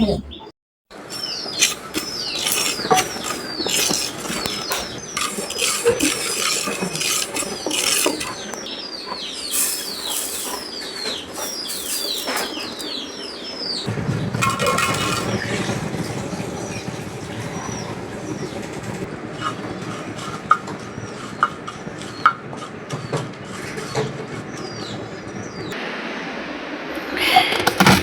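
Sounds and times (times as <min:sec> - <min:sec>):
birds chirping: 0:00.0 - 0:25.8.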